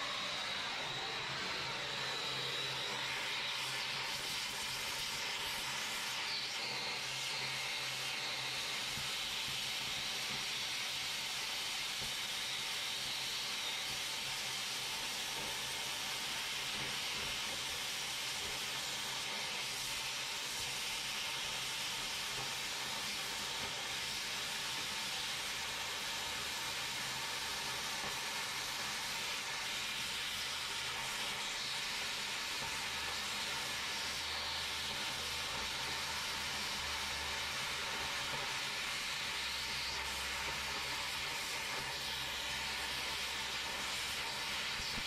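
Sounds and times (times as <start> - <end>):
cutting torch hissing: 0.0 - 45.0.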